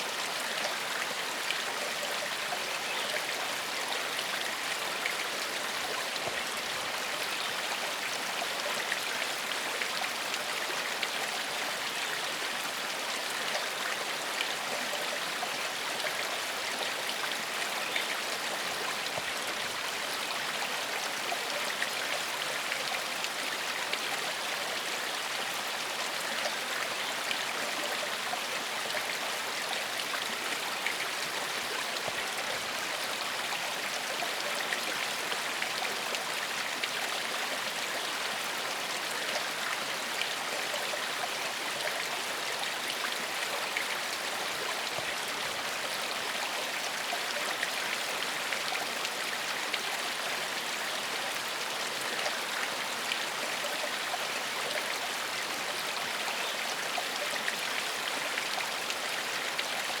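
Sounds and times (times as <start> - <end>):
stream flowing over stones: 0.0 - 60.0.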